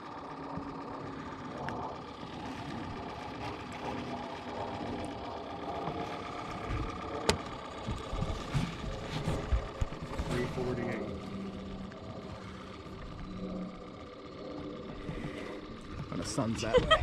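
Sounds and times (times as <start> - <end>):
small boat motor whining: 0.0 - 17.0.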